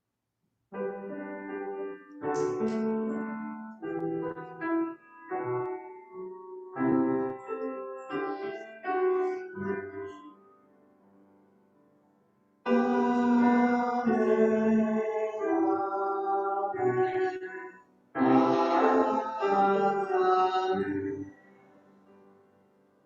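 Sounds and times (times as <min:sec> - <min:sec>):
piano chords ringing: 0:00.7 - 0:23.0
music with sustained keyboard chords: 0:00.8 - 0:23.0.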